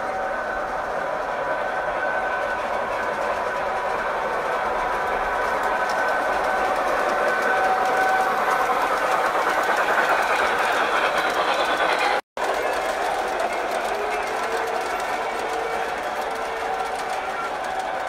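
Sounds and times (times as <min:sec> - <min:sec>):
wheels rattling over rails: 0:02.4 - 0:18.0.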